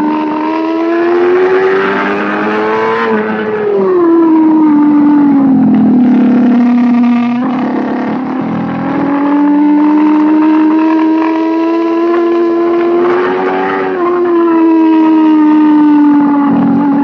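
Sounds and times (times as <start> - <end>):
racing motorcycle engine revving: 0.0 - 17.0.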